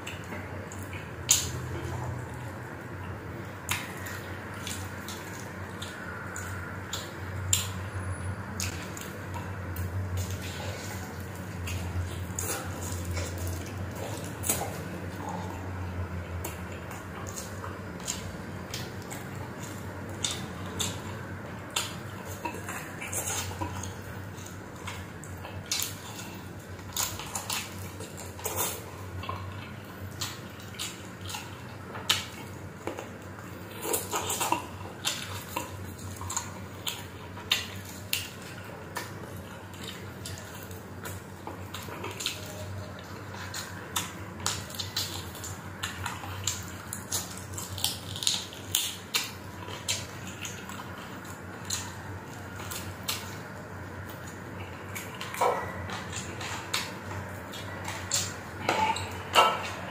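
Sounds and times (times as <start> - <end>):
wet chewing and lip smacking: 0.0 - 59.9.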